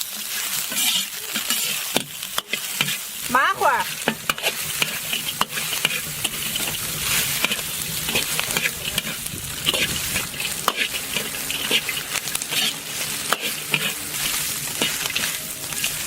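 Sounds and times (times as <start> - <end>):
food sizzling in a hot pan: 0.0 - 16.0
utensil scraping a pan: 0.3 - 3.1, 3.9 - 16.0.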